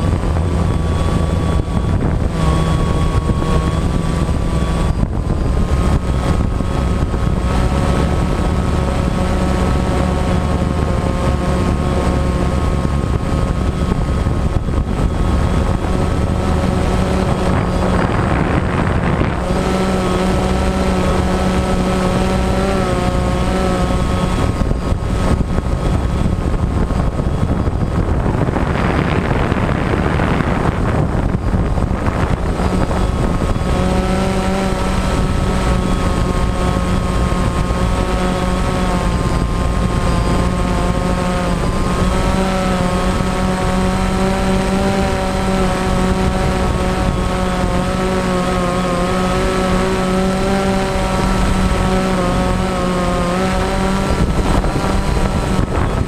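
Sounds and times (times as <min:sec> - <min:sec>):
drone propellers whining: 0:00.0 - 0:56.0.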